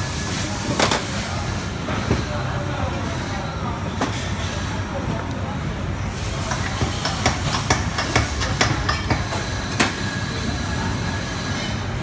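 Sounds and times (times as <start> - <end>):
low workshop rumble: 0.0 - 12.0.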